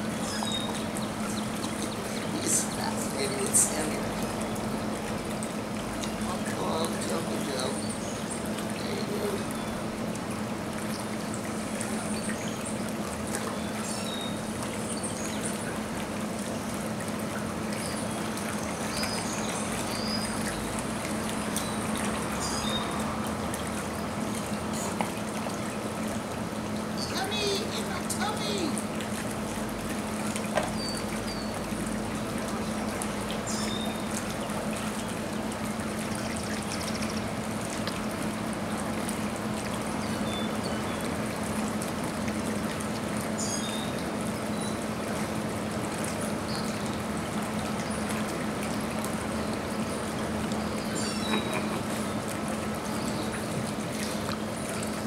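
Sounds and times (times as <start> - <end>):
low steady hum: 0.0 - 55.0
trickling water: 0.0 - 55.0.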